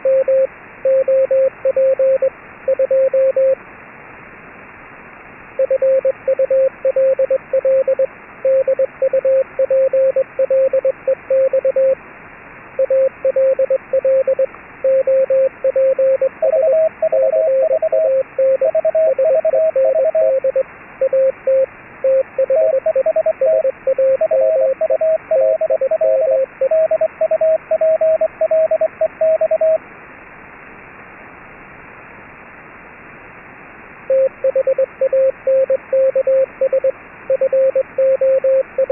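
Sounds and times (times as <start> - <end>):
morse code tone: 0.0 - 3.6, 5.6 - 12.0, 12.8 - 29.8, 34.1 - 38.9
radio static hiss: 0.0 - 38.9.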